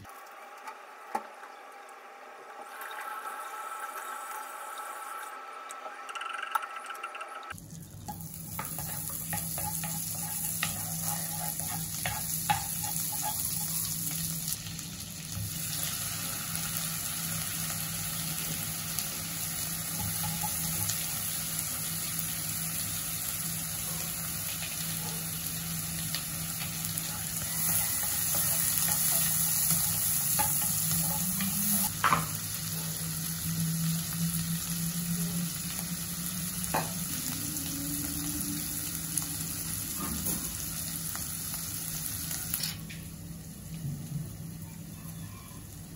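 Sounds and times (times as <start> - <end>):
food sizzling in wok: 7.5 - 45.9.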